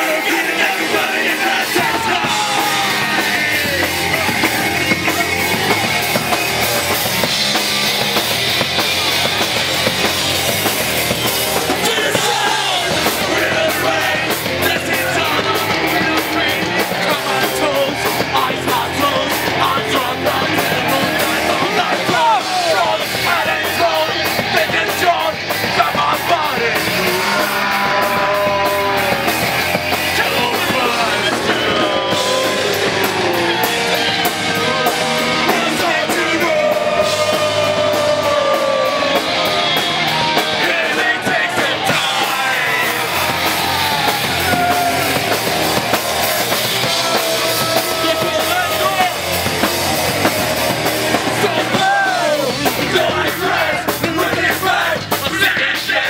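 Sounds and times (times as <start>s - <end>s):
distorted guitars: 0.0s - 56.0s
drums: 0.0s - 56.0s
shouted vocals: 0.0s - 56.0s.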